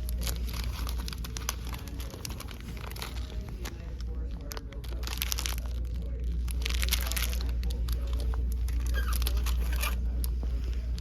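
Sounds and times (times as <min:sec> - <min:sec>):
steady low rumble: 0:00.0 - 0:09.3
crinkling and crunching: 0:00.0 - 0:11.0.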